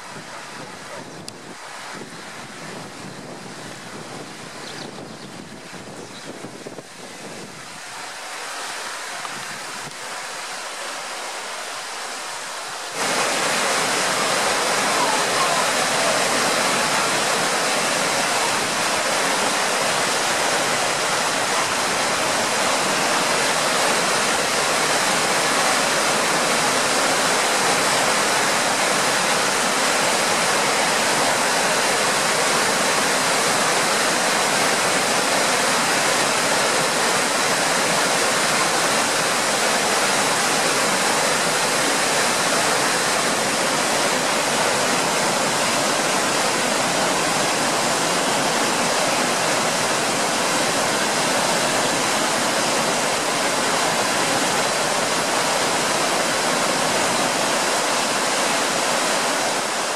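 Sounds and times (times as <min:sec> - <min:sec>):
river rushing over weir: 0:00.0 - 0:59.9.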